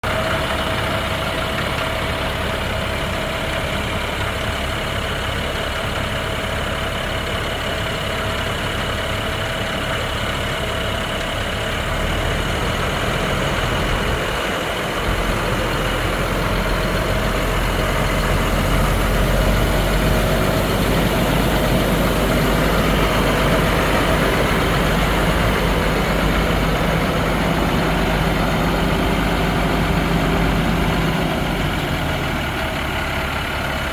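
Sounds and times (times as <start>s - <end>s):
diesel truck engine running: 0.0s - 33.9s.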